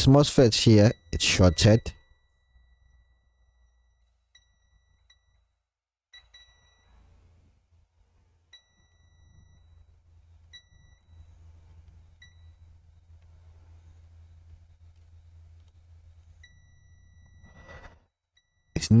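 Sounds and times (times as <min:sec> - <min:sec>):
multimeter continuity beeps: 0:00.0 - 0:05.5, 0:06.2 - 0:07.1, 0:08.5 - 0:17.7.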